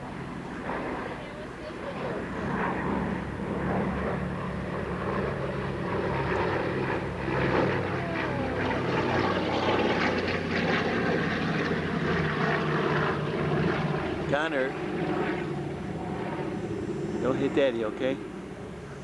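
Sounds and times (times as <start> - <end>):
propeller airplane engine: 0.0 - 19.0.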